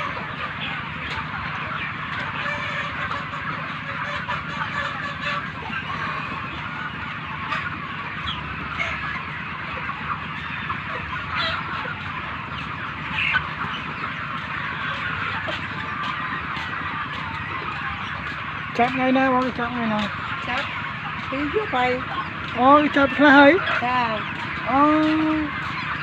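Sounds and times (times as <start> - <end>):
chickens clucking and cheeping: 0.0 - 26.0.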